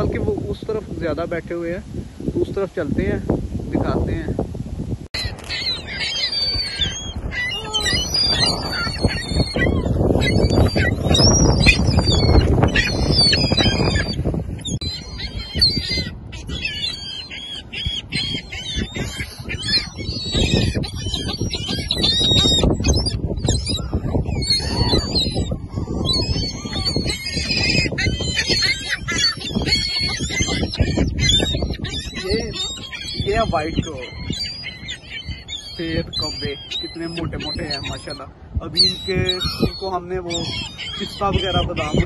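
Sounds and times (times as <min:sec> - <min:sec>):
gulls calling: 0:05.1 - 0:42.0.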